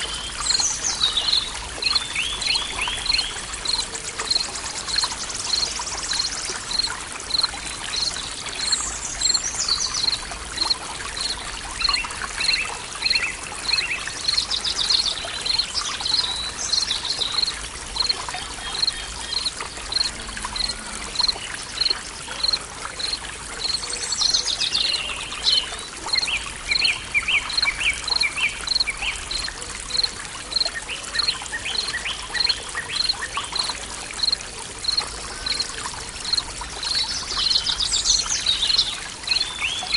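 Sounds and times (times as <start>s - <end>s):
birds singing: 0.0s - 17.5s, 18.6s - 39.9s
water trickling: 0.0s - 39.9s.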